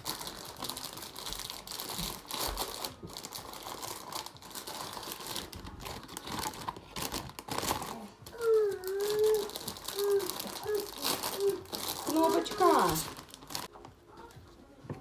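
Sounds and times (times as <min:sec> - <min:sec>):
plastic wrapping crinkling: 0:00.0 - 0:14.6.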